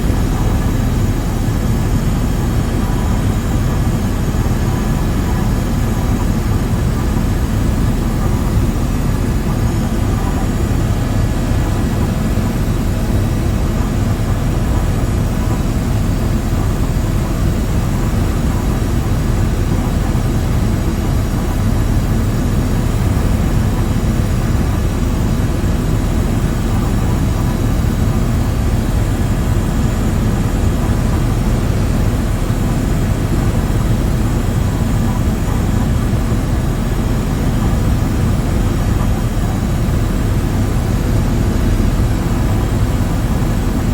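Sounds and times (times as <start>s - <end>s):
aircraft engine drone: 0.0s - 43.9s.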